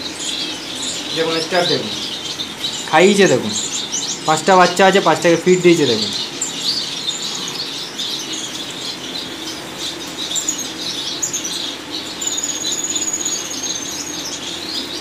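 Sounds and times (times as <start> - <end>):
finches chirping and twittering: 0.0 - 15.0.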